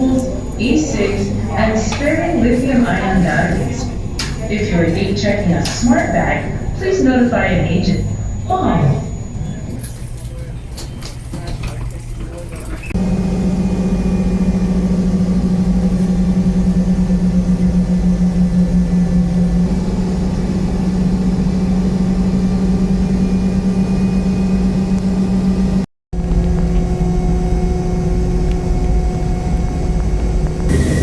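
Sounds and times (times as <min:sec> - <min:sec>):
airliner mechanical drone: 0:00.0 - 0:31.0.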